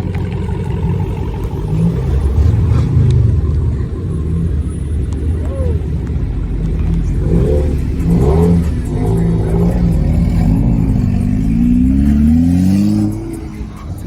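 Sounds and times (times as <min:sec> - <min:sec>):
car engine and exhaust revving: 0:00.0 - 0:14.0.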